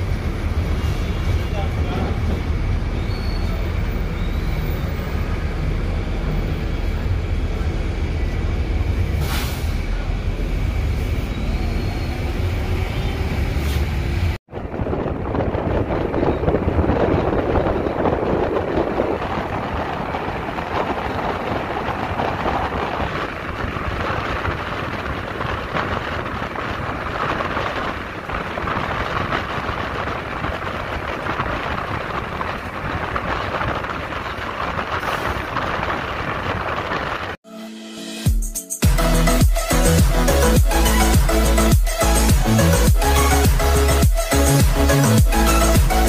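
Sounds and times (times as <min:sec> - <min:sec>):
bus engine drone: 0:00.0 - 0:37.4
wind and road noise: 0:00.0 - 0:37.4, 0:38.9 - 0:46.0.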